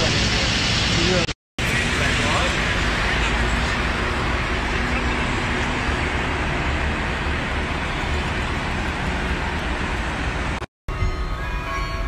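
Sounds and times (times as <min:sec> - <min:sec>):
passing vehicles hiss: 0:00.0 - 0:10.6
low traffic rumble: 0:00.0 - 0:11.3.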